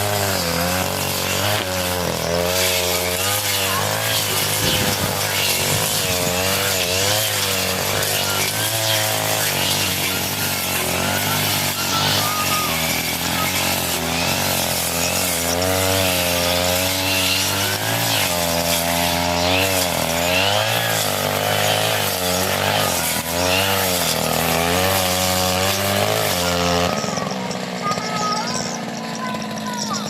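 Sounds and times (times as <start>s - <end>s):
brush cutter engine running: 0.0s - 30.0s.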